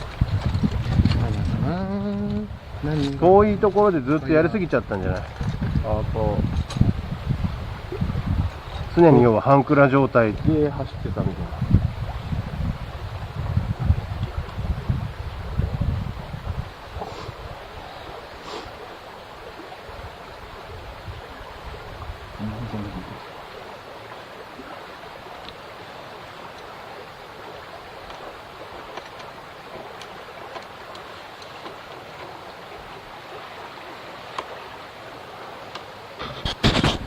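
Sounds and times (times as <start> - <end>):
steady rushing outdoor noise: 0.0 - 37.0.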